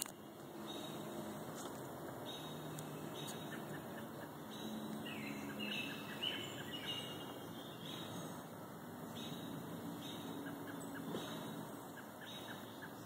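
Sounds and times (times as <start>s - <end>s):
faint outdoor background noise: 0.0s - 13.0s
songbirds singing: 0.0s - 13.0s.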